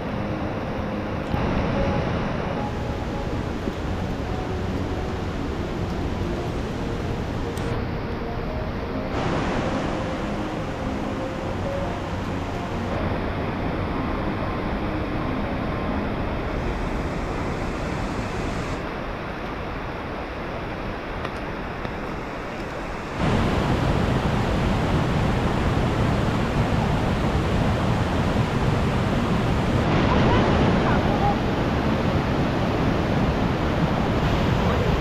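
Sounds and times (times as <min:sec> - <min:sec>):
falling rain: 0:00.0 - 0:35.0
rushing stream water: 0:00.0 - 0:35.0.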